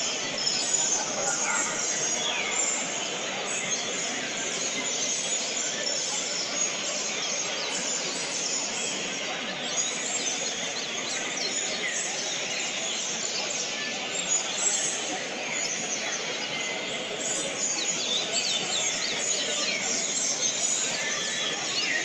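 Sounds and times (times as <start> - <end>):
murmur of voices: 0.0 - 22.0
songbirds singing: 0.0 - 22.0.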